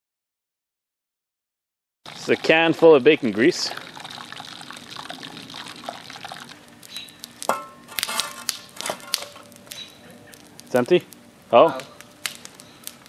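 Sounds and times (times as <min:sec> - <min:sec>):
grease draining into fire: 0:02.1 - 0:13.0
wood fire crackling and hissing: 0:02.1 - 0:13.0.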